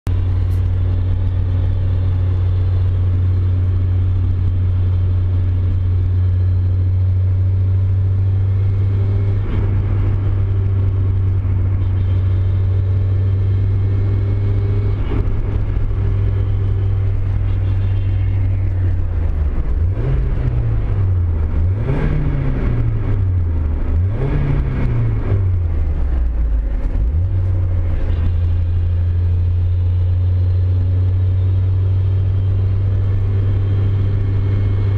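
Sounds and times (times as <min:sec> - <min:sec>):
car engine idling: 0:00.1 - 0:34.9
engine revving: 0:00.1 - 0:34.9.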